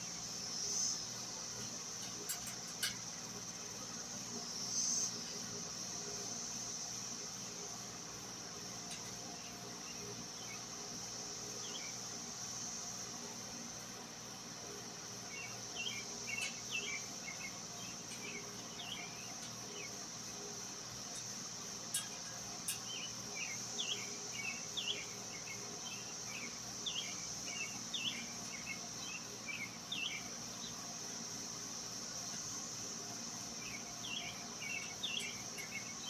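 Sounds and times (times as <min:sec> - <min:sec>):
insect chorus drone: 0:00.0 - 0:36.0.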